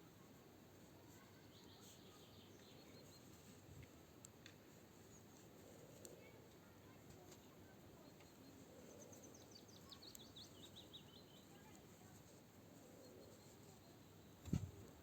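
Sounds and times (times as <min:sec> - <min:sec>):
outdoor background hiss: 0:00.0 - 0:15.0
songbird singing faintly: 0:00.0 - 0:15.0.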